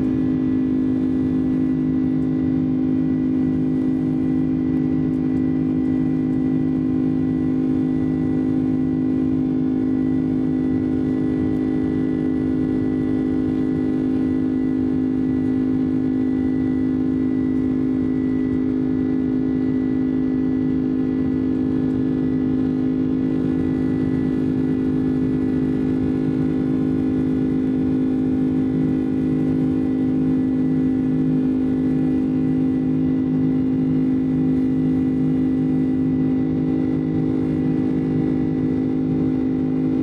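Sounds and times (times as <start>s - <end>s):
jet engine drone in cabin: 0.0s - 40.0s.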